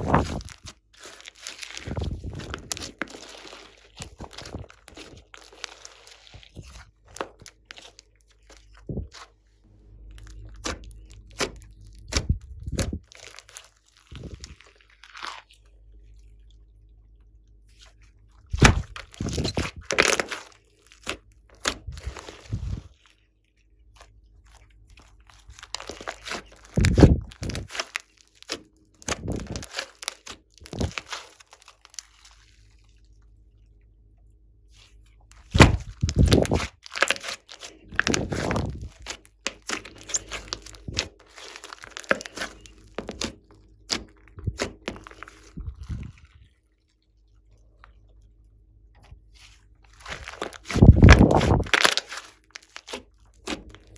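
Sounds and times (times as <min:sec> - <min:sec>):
slime squeezed crackling and popping: 0:00.0 - 0:09.3, 0:10.1 - 0:15.6, 0:18.5 - 0:23.2, 0:24.0 - 0:32.8, 0:34.7 - 0:46.3, 0:49.3 - 0:53.9.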